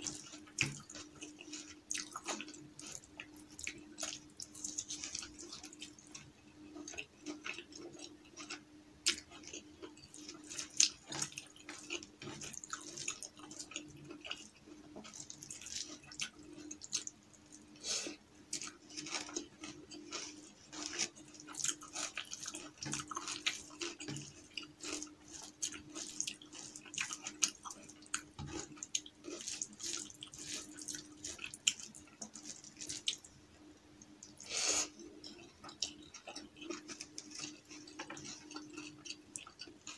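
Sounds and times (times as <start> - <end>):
wet chewing: 0.0 - 33.3, 34.0 - 39.9
faint steady hum: 0.0 - 39.9.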